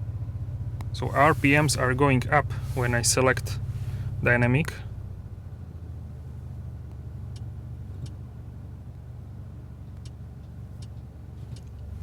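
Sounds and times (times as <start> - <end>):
car engine idling: 0.0 - 9.8, 10.9 - 12.0.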